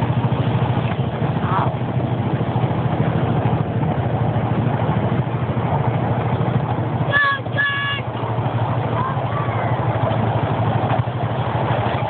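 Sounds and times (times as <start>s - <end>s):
small train engine rumbling: 0.0s - 12.0s.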